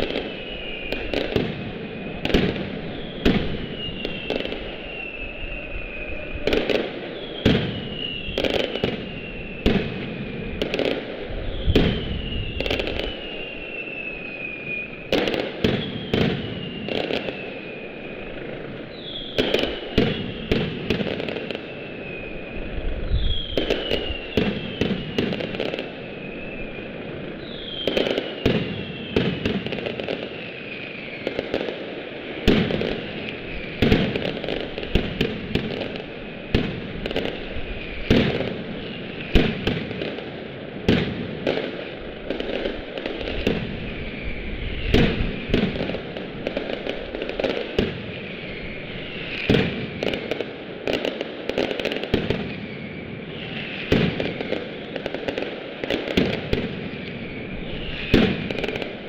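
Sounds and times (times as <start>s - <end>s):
whistling fireworks: 0.0s - 59.0s.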